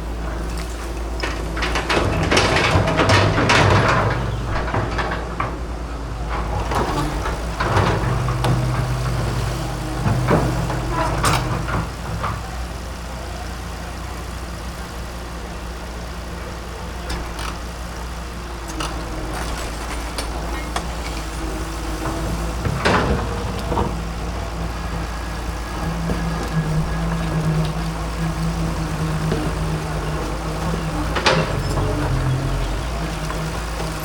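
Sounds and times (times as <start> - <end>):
excavator diesel engine running: 0.0 - 34.0
machine knocks and cracks: 0.4 - 12.4, 18.7 - 34.0.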